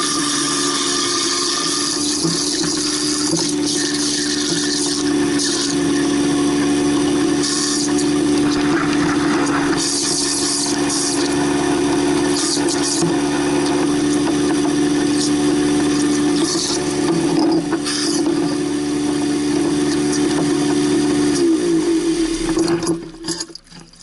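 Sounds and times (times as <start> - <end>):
garbage disposal motor humming: 0.0 - 24.0.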